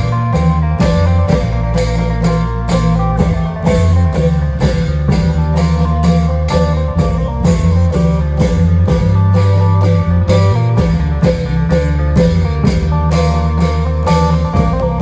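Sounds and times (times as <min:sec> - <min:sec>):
deep bass line: 0:00.0 - 0:15.0
plucked electric string melody: 0:00.0 - 0:15.0.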